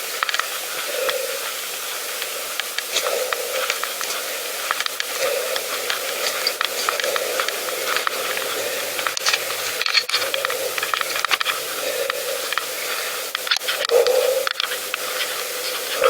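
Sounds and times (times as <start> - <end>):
bicycle riding on rough path: 0.0 - 16.0.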